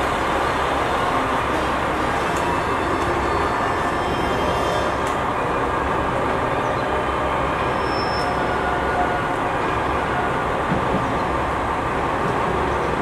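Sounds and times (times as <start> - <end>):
diesel railcar engine rumble: 0.0 - 13.0.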